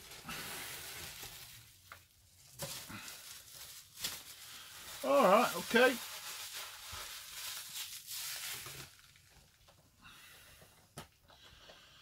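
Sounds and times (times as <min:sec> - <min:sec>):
packaging rustling in cardboard box: 0:00.0 - 0:09.6.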